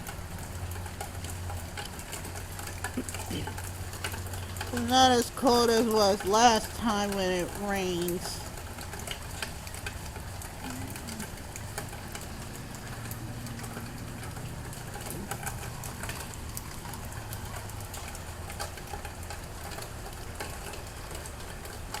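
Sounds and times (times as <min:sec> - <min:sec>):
low steady hum: 0:00.0 - 0:20.2
steady rain: 0:00.0 - 0:22.0.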